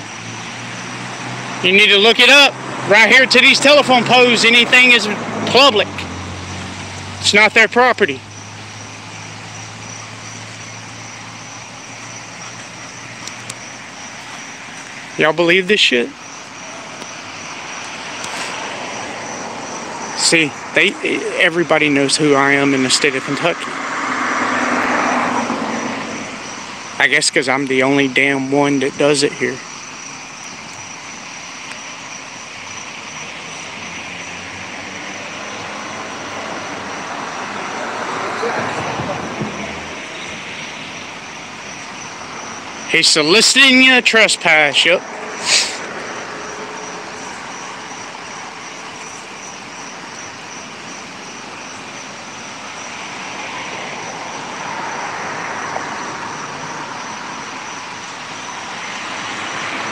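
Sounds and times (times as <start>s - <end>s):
road traffic noise: 0.0s - 59.9s
vehicle passing: 0.0s - 59.9s.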